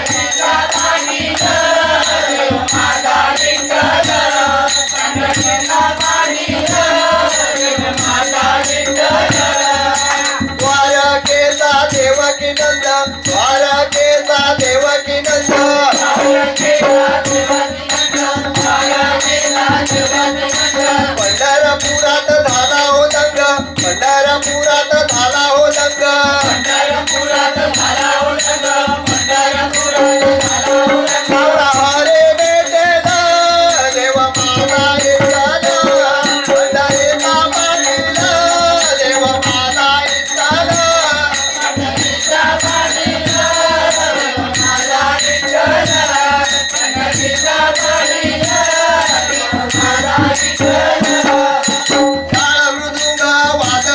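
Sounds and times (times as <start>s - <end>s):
drum: 0.0s - 53.9s
hand cymbals: 0.0s - 53.9s
men singing devotional song: 0.0s - 53.9s.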